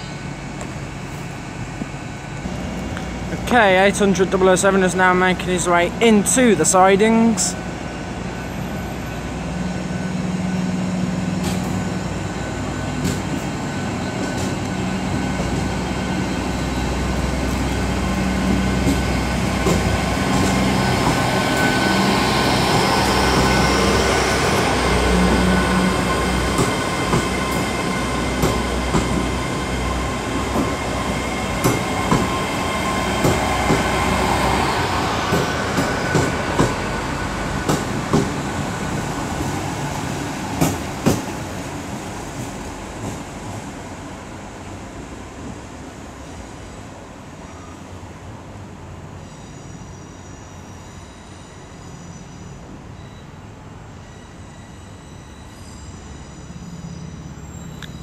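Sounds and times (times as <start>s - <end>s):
train engines humming: 0.0s - 58.0s
train whine: 0.0s - 58.0s.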